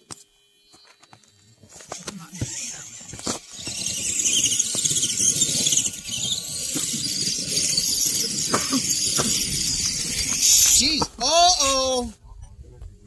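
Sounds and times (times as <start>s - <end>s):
electric motor whining: 0.0s - 12.1s.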